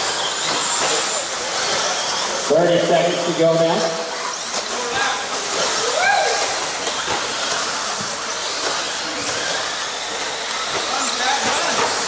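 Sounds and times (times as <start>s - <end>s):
rc truck motors whirring: 0.0s - 12.0s.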